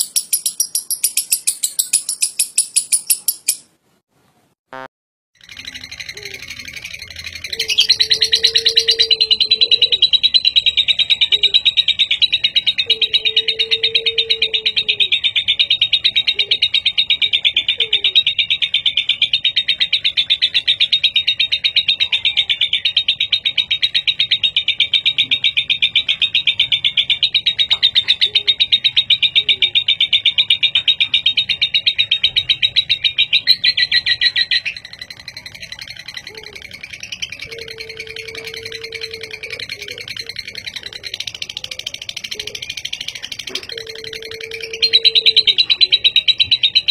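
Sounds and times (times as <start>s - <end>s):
lovebird trilling: 0.0s - 3.7s, 4.8s - 46.9s.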